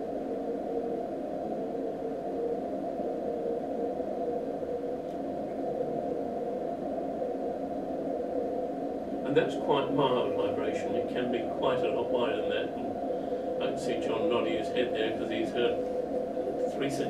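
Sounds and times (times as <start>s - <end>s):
wavering rough radio tone: 0.0s - 17.0s.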